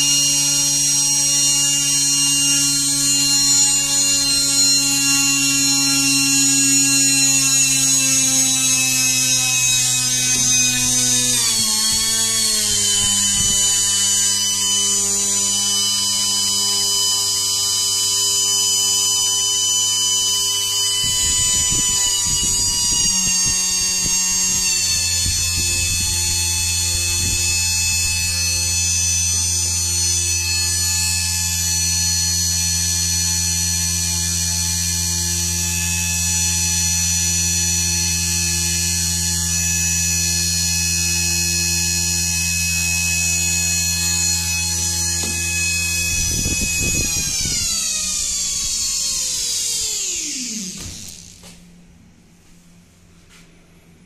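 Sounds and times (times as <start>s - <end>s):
electric motor whine: 0.0s - 52.1s.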